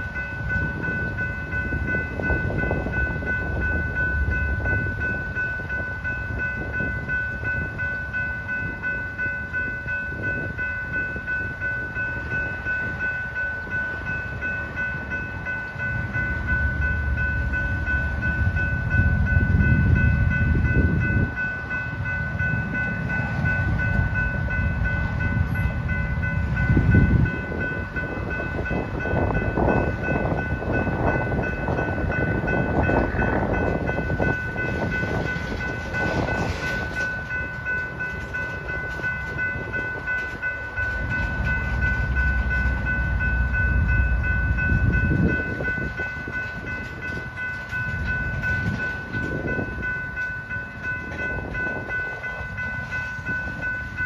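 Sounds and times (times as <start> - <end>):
steady high ringing tone: 0.0 - 54.0
train wheels rumbling on rail: 0.0 - 54.0.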